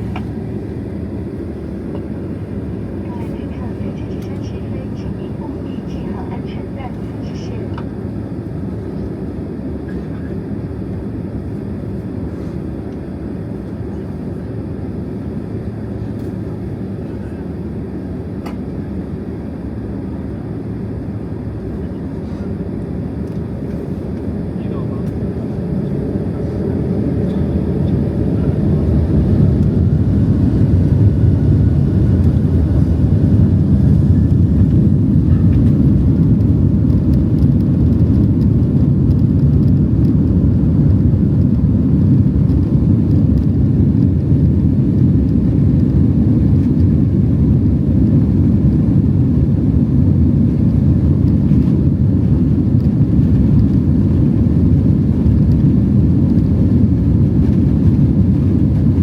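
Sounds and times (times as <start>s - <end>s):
jet engines rumbling in cabin: 0.0s - 59.0s.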